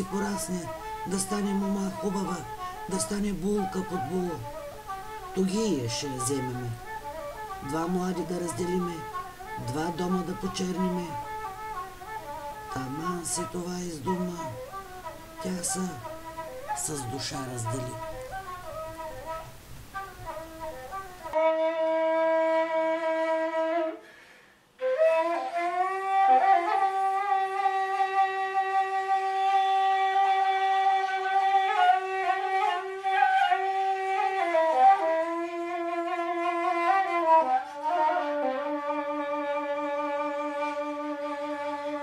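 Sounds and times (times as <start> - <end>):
woodwind slow melody: 0.0 - 42.0.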